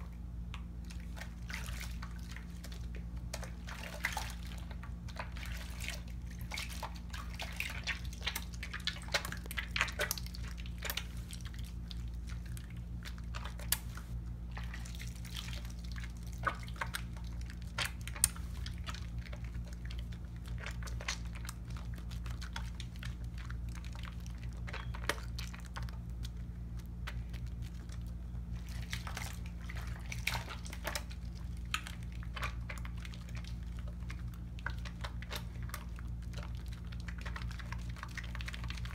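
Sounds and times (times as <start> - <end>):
soap lathering squishing: 0.0 - 38.9
steady low hum: 0.0 - 38.9
water splashes: 0.8 - 38.9.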